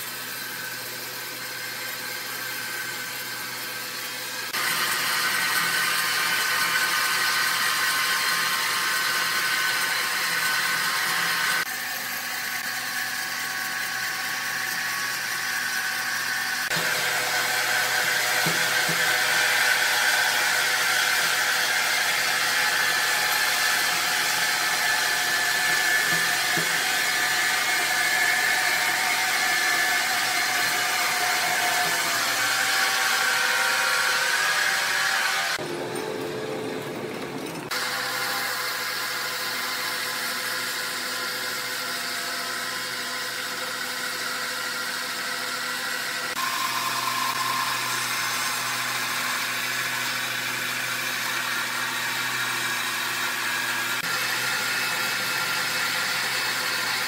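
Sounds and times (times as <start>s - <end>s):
sawmill saw whining: 0.0s - 57.0s.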